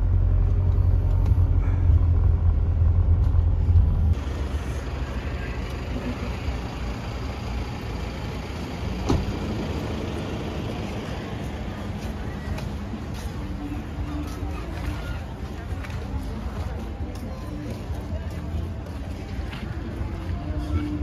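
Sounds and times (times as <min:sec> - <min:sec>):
engine and road noise rumble: 0:00.0 - 0:21.0.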